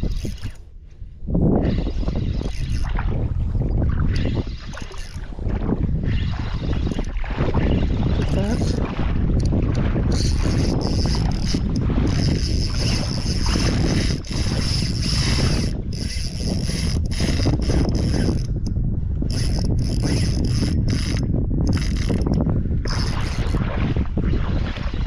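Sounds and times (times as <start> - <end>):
fishing reel whirring: 0.0 - 0.6, 1.6 - 8.8, 9.4 - 23.7.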